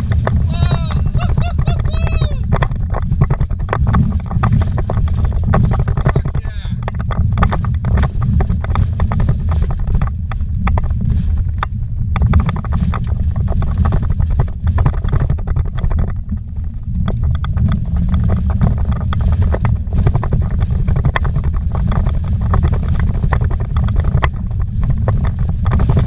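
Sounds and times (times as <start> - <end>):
rattles and knocks: 0.0 - 26.0
vehicle low rumble: 0.0 - 26.0.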